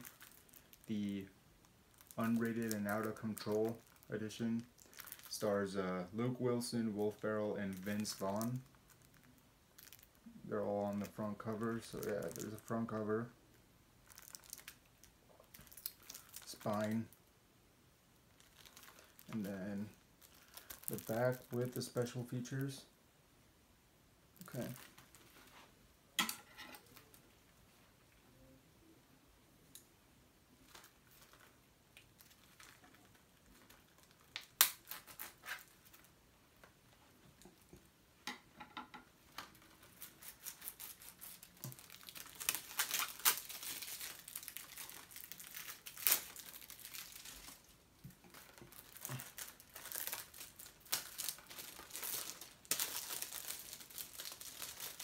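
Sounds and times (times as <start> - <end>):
plastic wrap crinkling: 0.0 - 5.8, 6.4 - 13.3, 14.0 - 17.2, 18.2 - 22.7, 24.4 - 25.7, 26.8 - 27.3, 30.5 - 37.8, 39.2 - 55.0.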